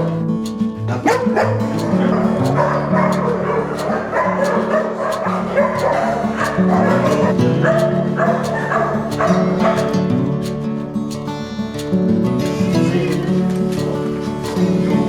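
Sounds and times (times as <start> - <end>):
background music: 0.0 - 15.0
dogs barking and yapping: 0.0 - 15.0.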